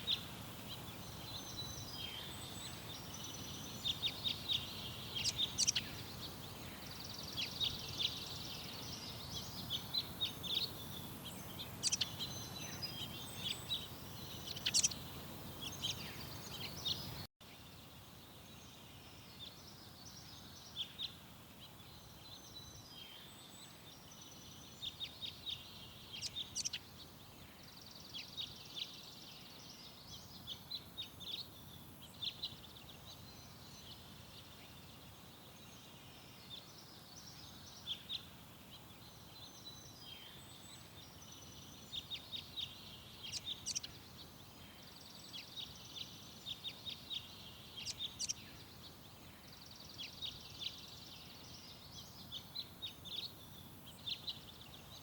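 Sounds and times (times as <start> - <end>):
faint background hiss: 0.0 - 55.0
songbirds chirping and trilling: 0.0 - 55.0.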